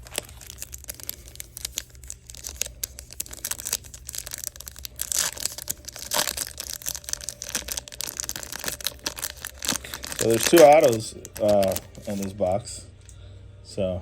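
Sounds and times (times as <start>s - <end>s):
cards being handled: 0.0s - 12.6s
foil wrapper crinkling: 0.0s - 12.6s.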